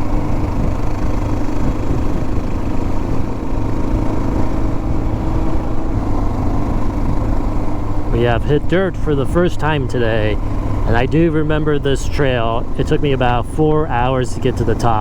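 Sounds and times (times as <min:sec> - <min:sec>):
heavy low rumble: 0:00.0 - 0:15.0
motorcycle engine running: 0:00.0 - 0:15.0.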